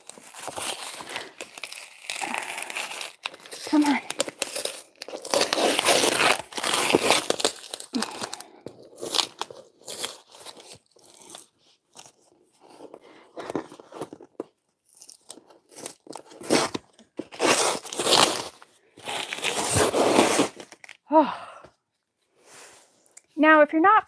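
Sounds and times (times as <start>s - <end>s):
packing tape ripping off cardboard: 0.0s - 12.2s, 13.3s - 21.0s.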